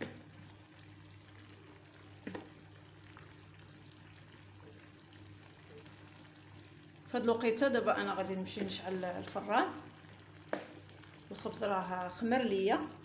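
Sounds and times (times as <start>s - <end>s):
food sizzling and crackling: 0.0s - 13.0s
low steady hum: 0.0s - 13.0s.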